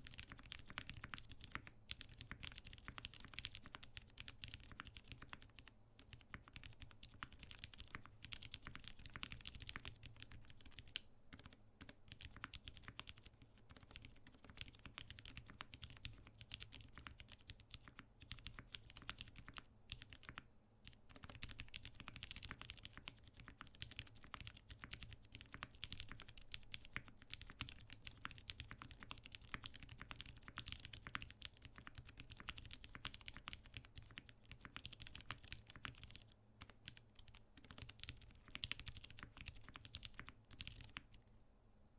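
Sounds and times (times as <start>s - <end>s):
mechanical keyboard typing: 0.0s - 41.2s.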